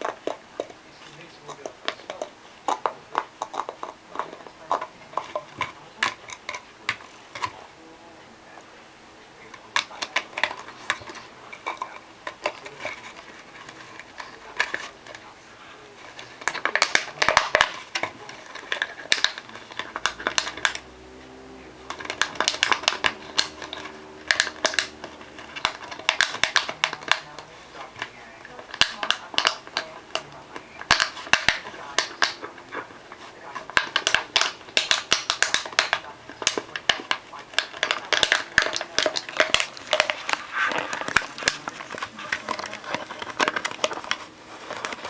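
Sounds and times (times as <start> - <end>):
plastic bottle crackling and crunching: 0.0 - 7.6, 9.4 - 21.1, 21.8 - 45.0.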